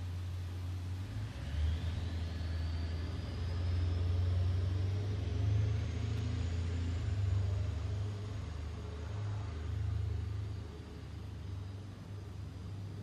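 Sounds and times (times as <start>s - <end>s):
faint high whine: 0.0s - 13.0s
jet airliner rumble overhead: 0.0s - 13.0s.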